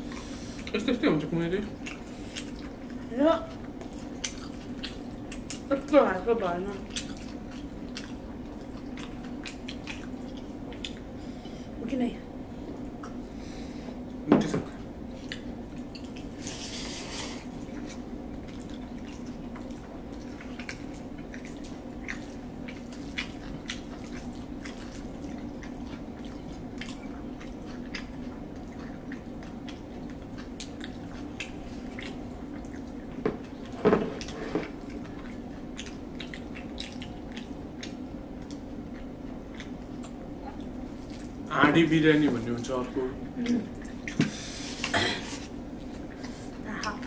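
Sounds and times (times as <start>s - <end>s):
people chewing and eating: 0.0s - 47.0s.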